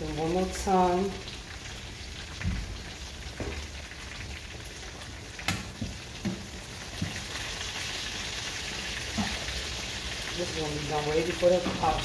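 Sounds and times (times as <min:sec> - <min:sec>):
chicken wings sizzling in oil: 0:00.0 - 0:12.0.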